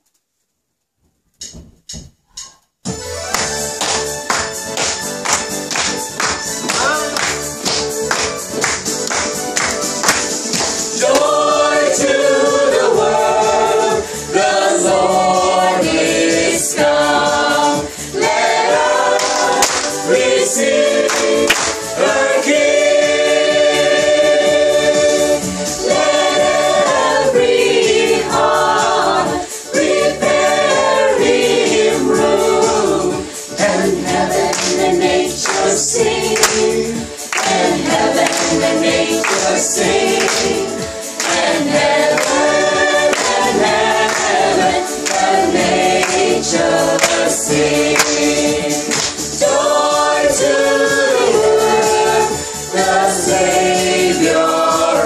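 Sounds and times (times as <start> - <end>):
choir singing gospel music: 3.4 - 55.0.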